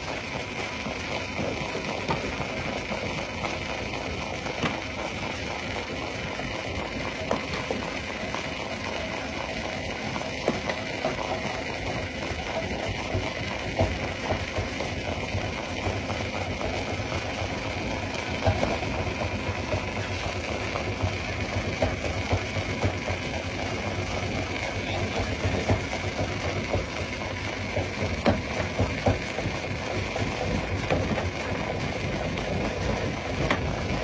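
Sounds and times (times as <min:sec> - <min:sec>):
stone crusher rumbling: 0:00.0 - 0:34.0.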